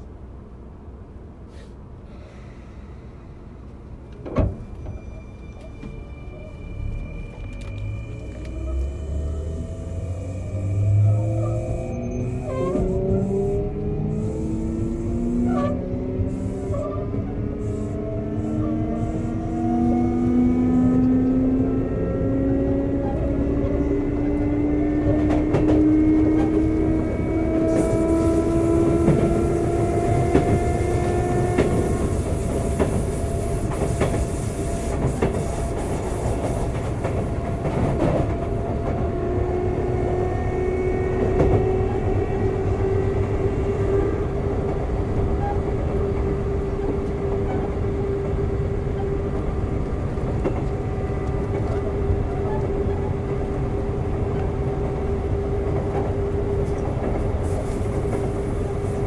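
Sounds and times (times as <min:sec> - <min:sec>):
steady train hum: 0:00.0 - 0:59.0.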